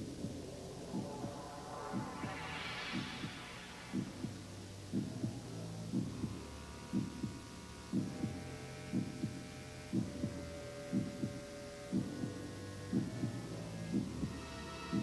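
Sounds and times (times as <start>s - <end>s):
heartbeat double thump: 0.0s - 14.3s
low droning hum with held tones: 0.0s - 15.0s.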